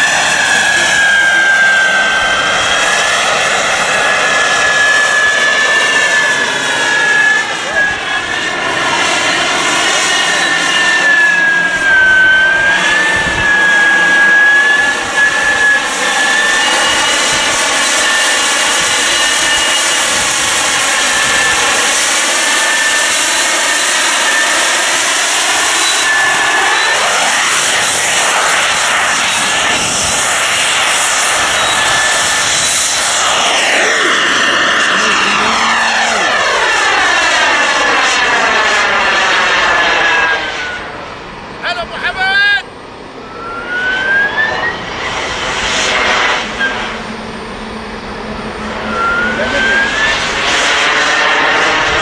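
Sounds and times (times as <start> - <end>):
model jet turbine whine: 0.0 - 52.0.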